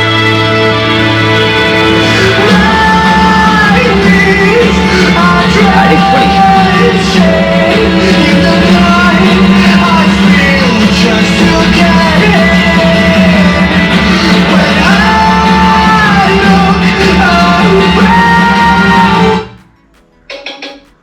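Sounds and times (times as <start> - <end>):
electronic pop song with vocals: 0.0 - 21.0.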